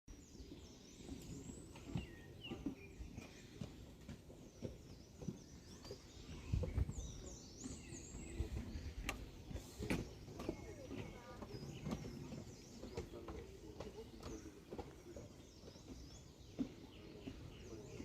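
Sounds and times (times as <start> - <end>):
small birds chirping: 0.1 - 18.0.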